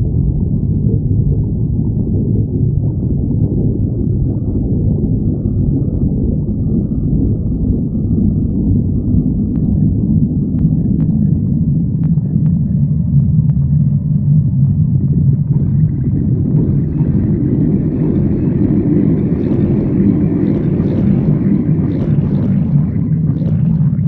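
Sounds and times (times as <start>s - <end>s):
stomach growling: 0.0s - 24.0s.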